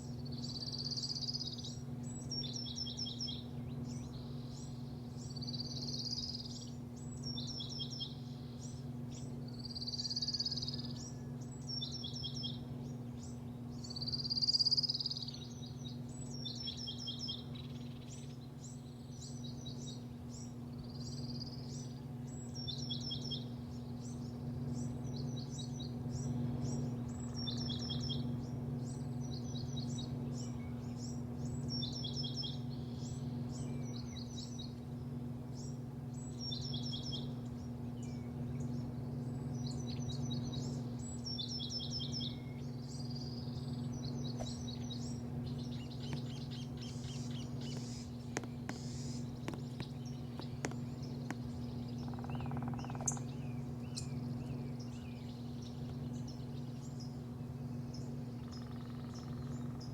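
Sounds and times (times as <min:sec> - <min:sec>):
low mechanical hum: 0:00.0 - 0:59.9
songbirds chirping: 0:00.0 - 0:59.9.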